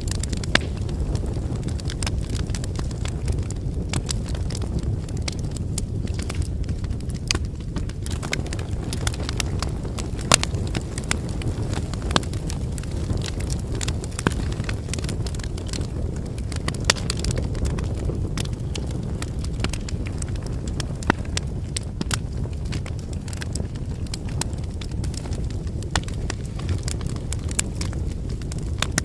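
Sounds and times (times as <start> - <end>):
firewood crackling and popping: 0.0 - 29.0
flames rumbling: 0.0 - 29.0.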